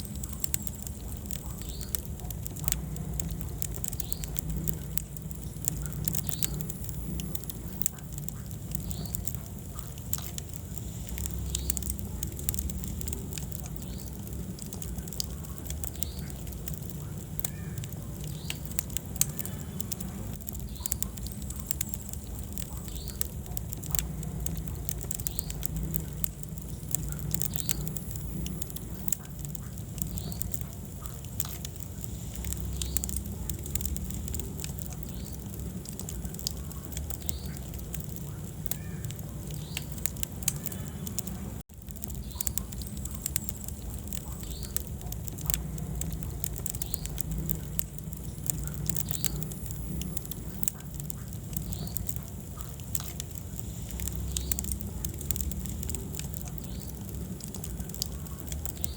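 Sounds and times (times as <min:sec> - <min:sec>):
fire crackling and popping: 0:00.0 - 0:58.9
low rumble of flames: 0:00.0 - 0:58.9.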